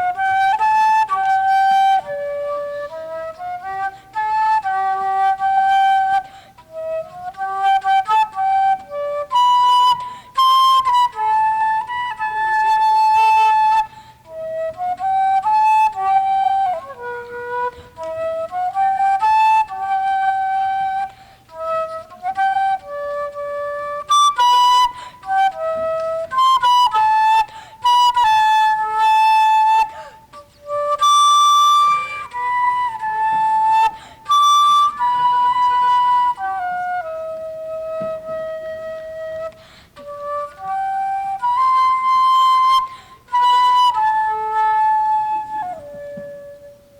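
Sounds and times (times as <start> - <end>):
solo flute melody: 0.0 - 46.9.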